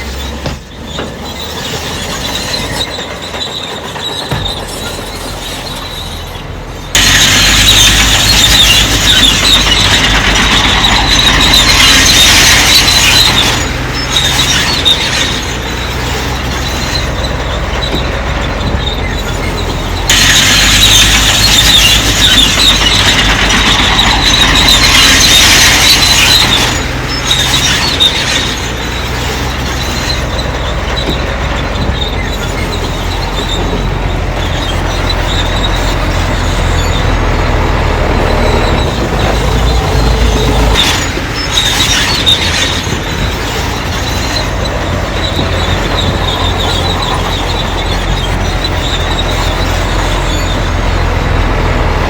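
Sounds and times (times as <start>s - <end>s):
bulldozer diesel engine under load: 0.0s - 52.0s
steel tracks squealing: 0.0s - 52.0s.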